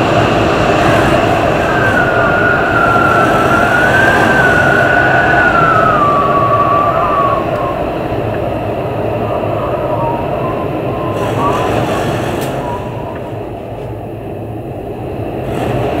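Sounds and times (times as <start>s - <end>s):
heavy storm wind: 0.0s - 16.0s
high wavering whistle: 0.4s - 13.8s.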